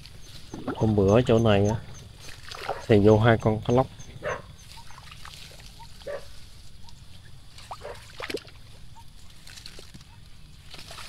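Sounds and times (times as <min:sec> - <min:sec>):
shallow water sloshing: 0:00.0 - 0:03.2, 0:04.0 - 0:10.0
rustling of wet grass: 0:00.0 - 0:11.0.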